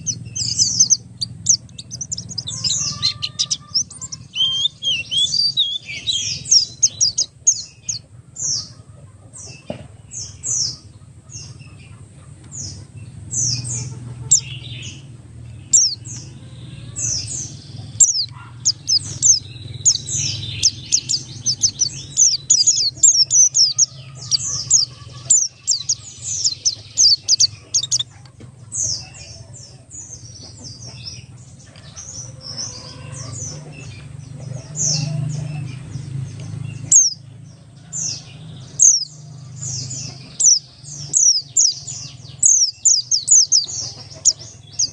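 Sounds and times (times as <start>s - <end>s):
white-eye bird singing: 0.0s - 44.9s.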